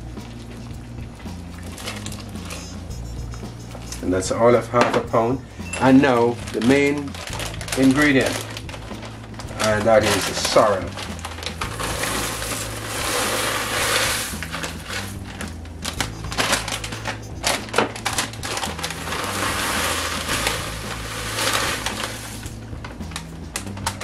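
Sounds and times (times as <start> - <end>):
dry flakes rustling and crackling: 0.0 - 24.0
plastic bag crinkling: 1.2 - 2.8, 5.8 - 24.0.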